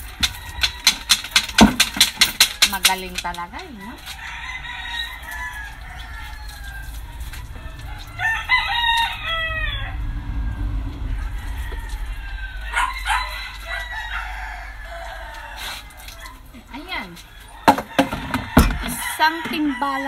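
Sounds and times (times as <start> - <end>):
rooster crowing: 0.0 - 1.6, 3.8 - 16.5, 17.4 - 20.0.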